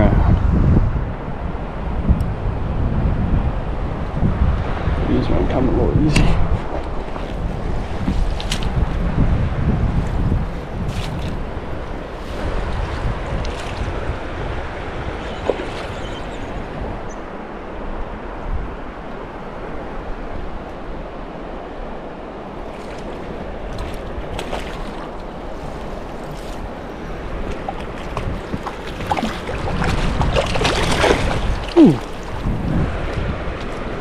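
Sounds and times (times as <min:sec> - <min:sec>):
wind buffeting microphone: 0:00.0 - 0:34.0
river water rushing: 0:06.4 - 0:34.0.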